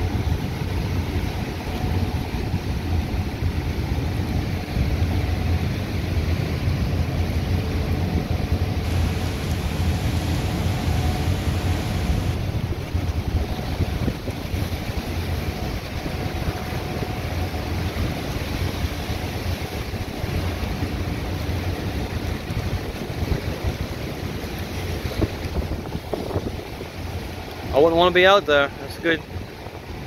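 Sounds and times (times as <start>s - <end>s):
rough waves crashing: 0.0s - 30.0s
wind blowing on microphone: 0.0s - 30.0s.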